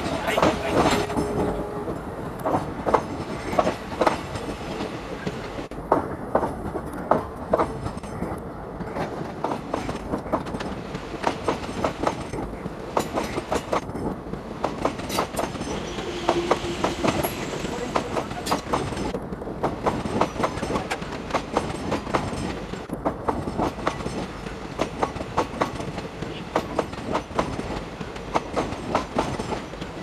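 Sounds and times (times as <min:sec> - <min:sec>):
train rumble: 0:00.0 - 0:30.0
train wheels clicking over rail joints: 0:02.4 - 0:30.0.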